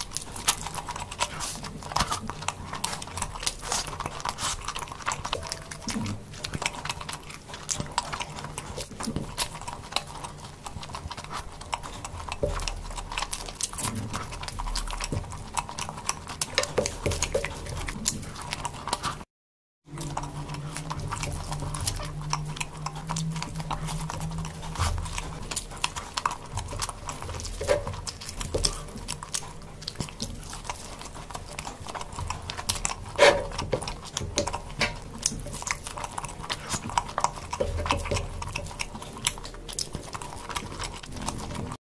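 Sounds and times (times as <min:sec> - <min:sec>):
wet chewing and mouth sounds: 0:00.0 - 0:41.8.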